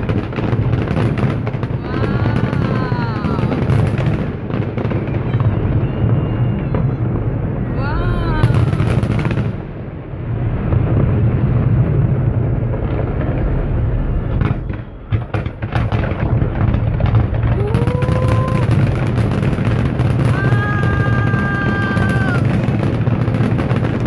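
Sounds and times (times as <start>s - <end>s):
sharp firework cracks: 0.0s - 9.8s, 10.6s - 24.0s
fireworks rumble: 0.0s - 24.0s.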